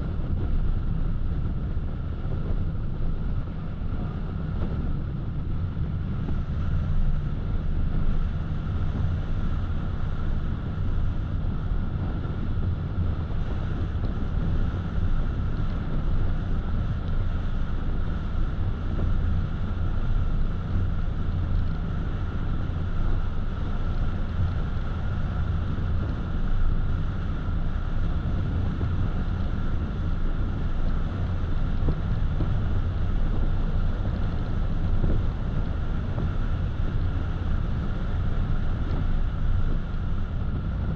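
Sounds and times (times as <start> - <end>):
car road noise rumble: 0.0 - 40.9
faint steady whine: 0.0 - 40.9.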